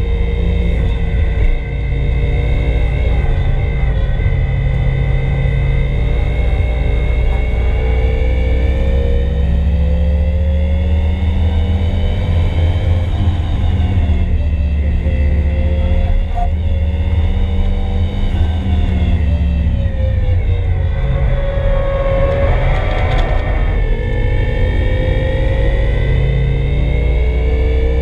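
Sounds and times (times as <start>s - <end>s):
car engine revving in cabin: 0.0s - 28.0s.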